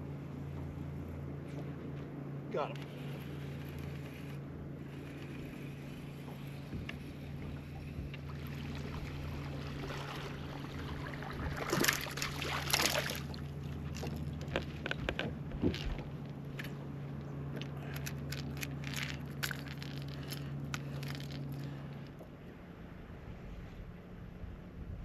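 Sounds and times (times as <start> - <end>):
boat motor humming: 0.0 - 25.0.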